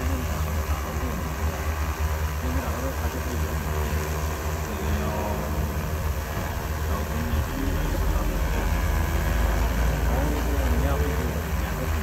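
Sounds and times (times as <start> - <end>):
drone rotors humming: 0.0 - 12.0.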